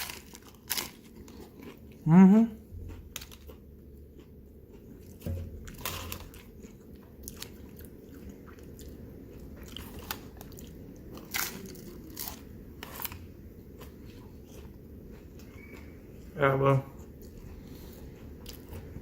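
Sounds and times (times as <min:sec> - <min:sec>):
crunchy food crunching: 0:00.0 - 0:02.1, 0:02.8 - 0:16.3
person chewing: 0:00.0 - 0:19.0.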